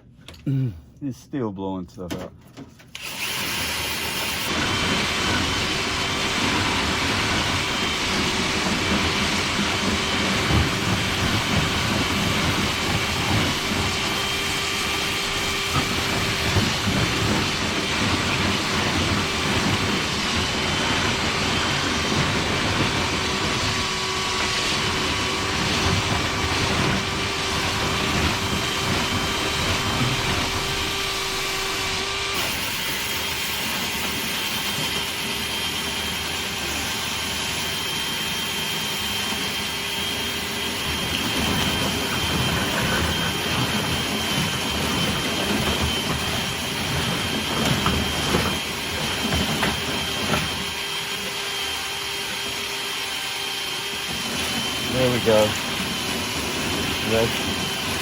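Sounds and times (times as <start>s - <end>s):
machine whine: 2.9s - 58.0s.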